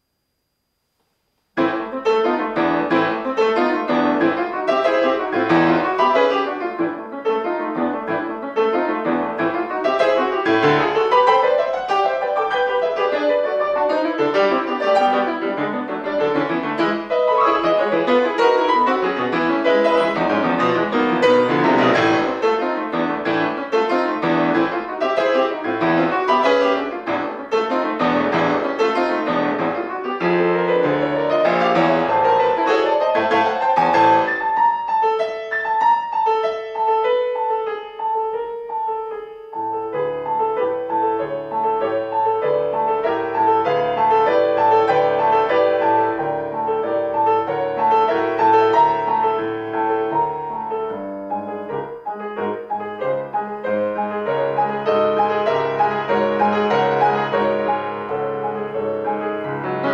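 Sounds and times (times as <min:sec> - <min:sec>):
fast classical piano: 0:01.6 - 0:59.9.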